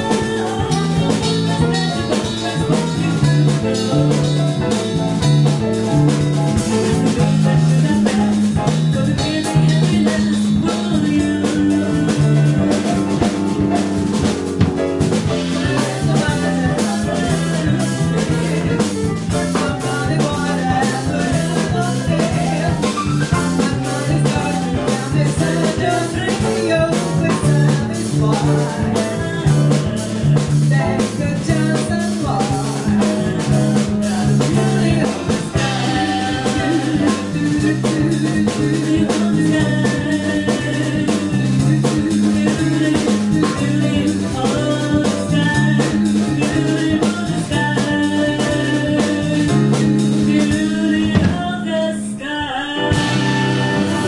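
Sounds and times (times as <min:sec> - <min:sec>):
person singing: 0:00.0 - 0:14.3, 0:15.1 - 0:54.0
drum kit: 0:00.0 - 0:54.0
electric bass guitar: 0:00.0 - 0:54.0
grand piano: 0:00.0 - 0:54.0.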